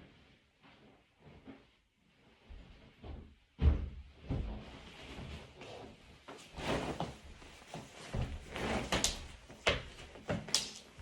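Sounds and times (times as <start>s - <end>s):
rustling of thick clothing: 0.0s - 11.0s.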